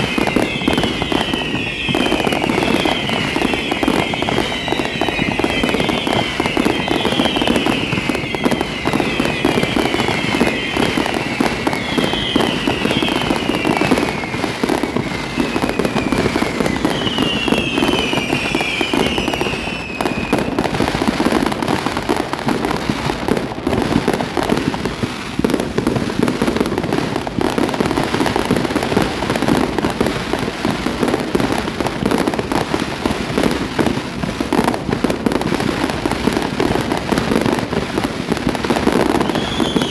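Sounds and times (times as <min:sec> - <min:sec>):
falling firework whistles: 0:00.0 - 0:39.9
fireworks crackling: 0:00.0 - 0:39.9.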